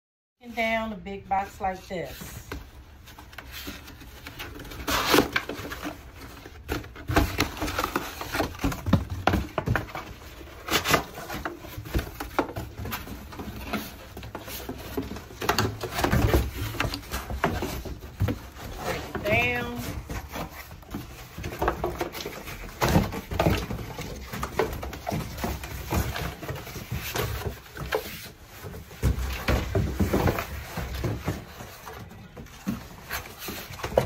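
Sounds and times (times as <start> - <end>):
cardboard scraping and creaking: 2.0 - 34.0.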